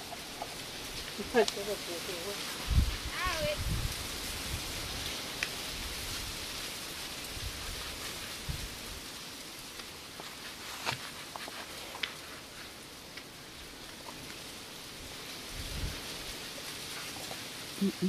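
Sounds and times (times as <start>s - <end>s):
steady hiss like rain: 0.0s - 18.0s.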